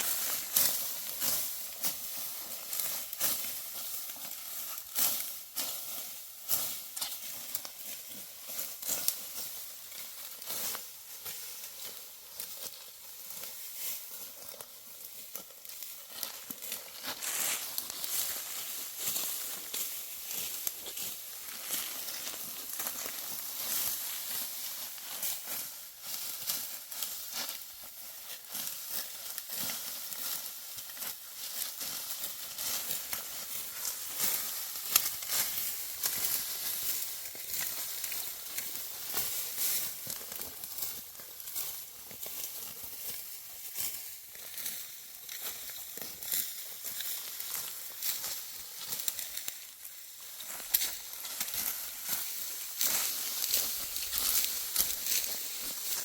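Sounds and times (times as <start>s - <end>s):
sickle cutting dry wheat stalks: 0.0s - 56.0s.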